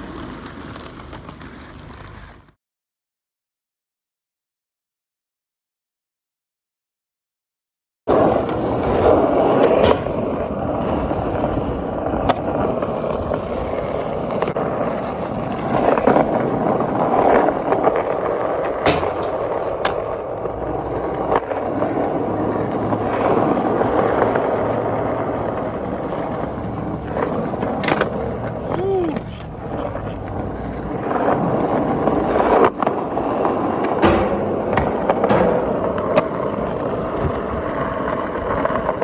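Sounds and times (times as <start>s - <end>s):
skateboard clacks: 0.0s - 2.6s, 8.1s - 39.0s
skateboard wheels rolling: 0.0s - 2.6s, 8.1s - 39.0s.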